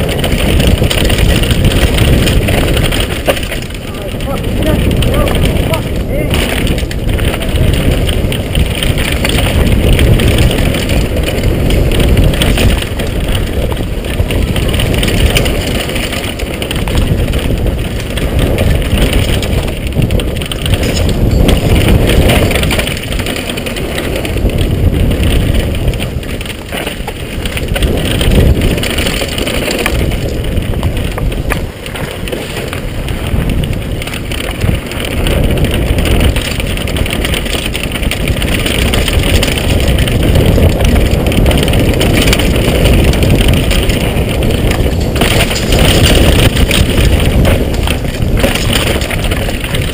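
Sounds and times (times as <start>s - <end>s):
mountain bike rattling on rough trail: 0.0s - 49.9s
wind rushing over microphone: 0.0s - 49.9s.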